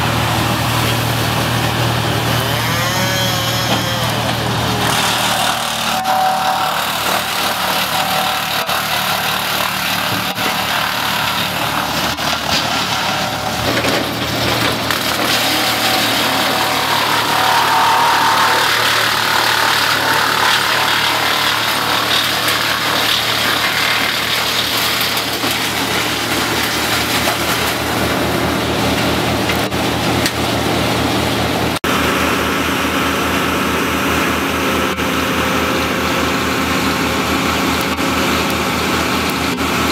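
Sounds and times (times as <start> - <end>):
wood chipper grinding branches: 0.0 - 39.9.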